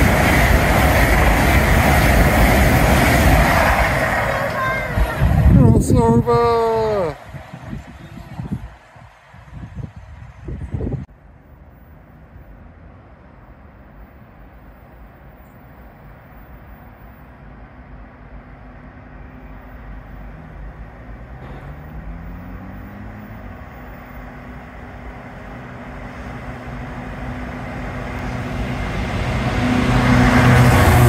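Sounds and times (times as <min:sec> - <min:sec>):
diesel freight train approaching: 0:00.0 - 0:31.0.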